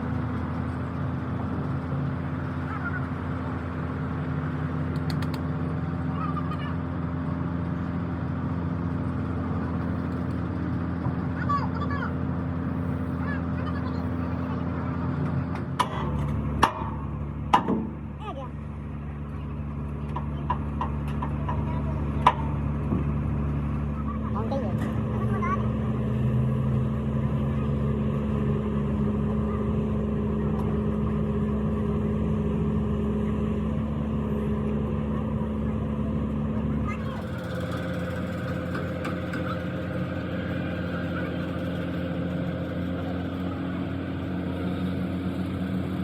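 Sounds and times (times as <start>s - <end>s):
engine humming: 0.0s - 46.0s.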